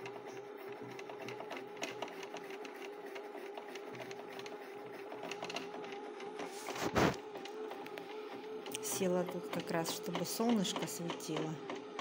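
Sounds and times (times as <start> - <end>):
sewing machine motor whine: 0.0 - 12.0.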